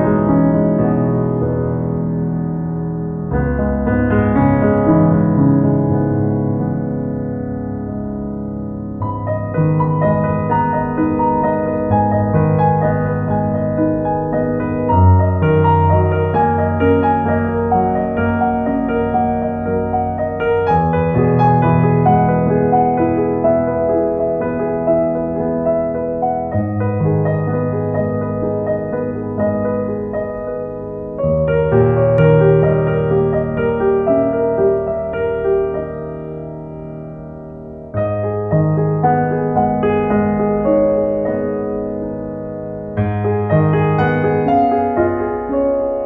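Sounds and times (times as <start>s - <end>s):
calm piano music: 0.0s - 46.0s.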